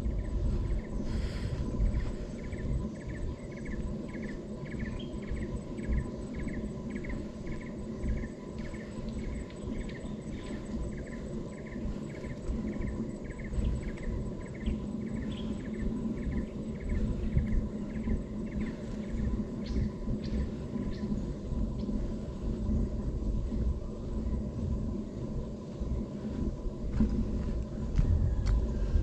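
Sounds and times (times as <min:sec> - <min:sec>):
insect chirping: 0:00.0 - 0:29.0
low rumbling background: 0:00.0 - 0:29.0.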